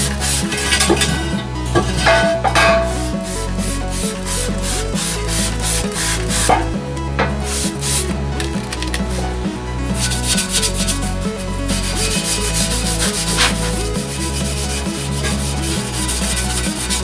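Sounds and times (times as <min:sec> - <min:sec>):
background music: 0:00.0 - 0:17.0
rubbing strokes on wheel: 0:00.0 - 0:17.0.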